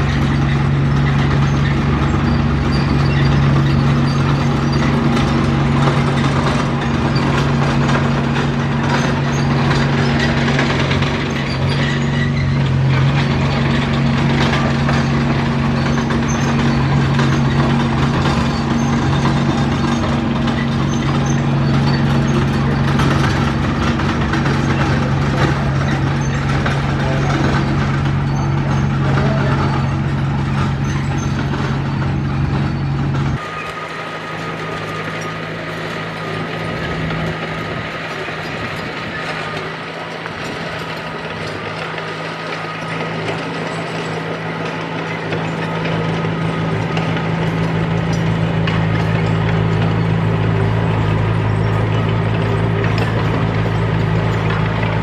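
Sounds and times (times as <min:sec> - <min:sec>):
heavy diesel engine running: 0:00.0 - 0:55.0
mechanical clatter: 0:00.0 - 0:55.0.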